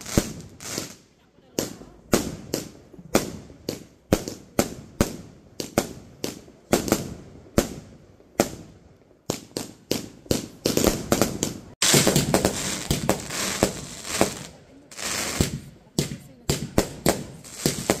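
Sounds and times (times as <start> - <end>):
firework bangs: 0.0 - 18.0
firework crackle: 0.0 - 18.0.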